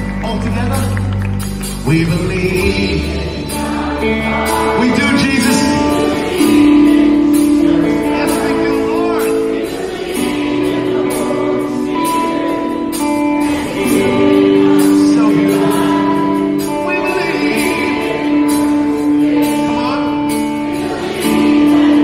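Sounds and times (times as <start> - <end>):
person singing: 0.0 - 22.0
pop-rock band playing live: 0.0 - 22.0
steady cymbal beat: 1.4 - 22.0.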